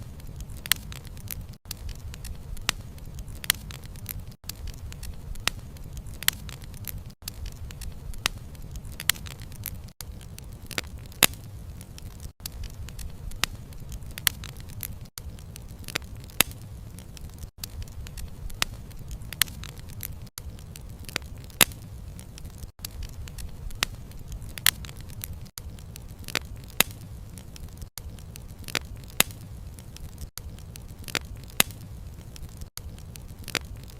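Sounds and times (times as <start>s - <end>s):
bonfire flame rumble: 0.0s - 33.9s
burning wood crackling and popping: 0.0s - 33.9s.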